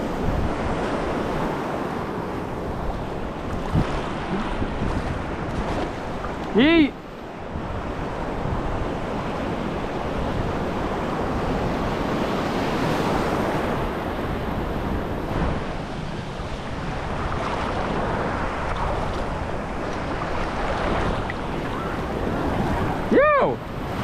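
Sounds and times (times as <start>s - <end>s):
wind rumbling on microphone: 0.0s - 6.6s, 7.2s - 24.0s
small waves breaking in surf: 0.0s - 24.0s.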